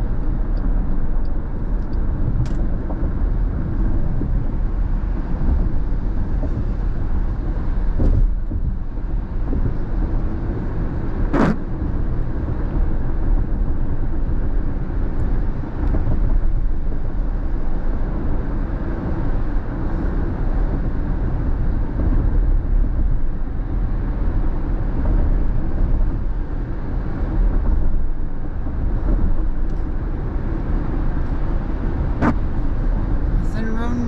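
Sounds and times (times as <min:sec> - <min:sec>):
road and tyre noise: 0:00.0 - 0:34.0.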